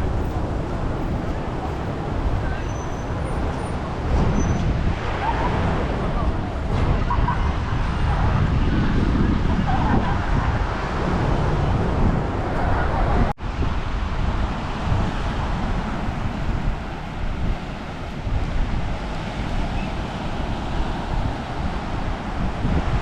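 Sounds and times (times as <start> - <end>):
distant road traffic: 0.0 - 23.0
surf washing: 0.0 - 23.0
wind buffeting microphone: 0.0 - 23.0.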